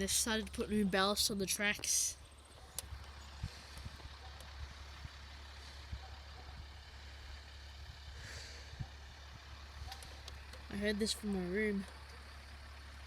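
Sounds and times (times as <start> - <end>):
diesel machinery rumbling: 0.0 - 13.0.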